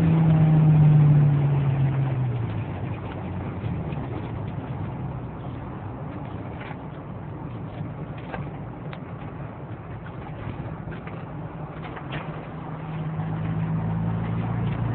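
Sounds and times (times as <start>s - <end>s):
car engine cruising: 0.0s - 14.9s
tyre and road noise: 0.0s - 14.9s.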